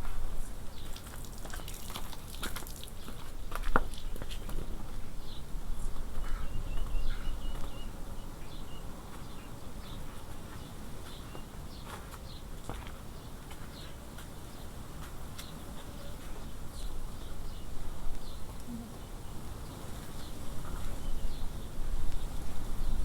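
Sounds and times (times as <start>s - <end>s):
small birds chirping: 0.4s - 23.0s.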